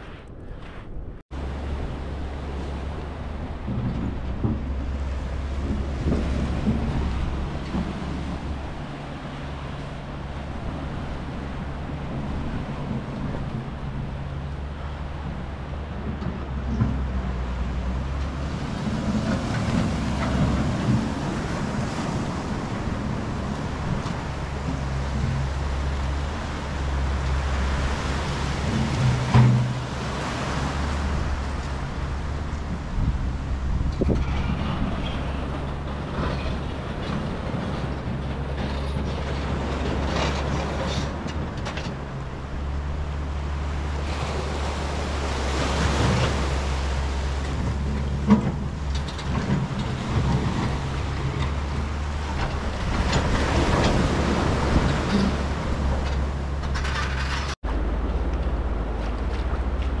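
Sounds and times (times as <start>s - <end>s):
steady outdoor wash: 0.0s - 60.0s
wind rumbling on microphone: 0.0s - 60.0s.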